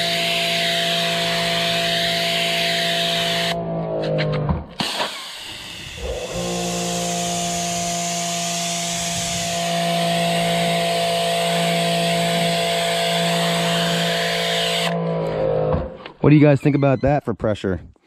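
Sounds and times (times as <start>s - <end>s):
pressure washer motor humming: 0.0s - 3.6s, 4.8s - 15.8s.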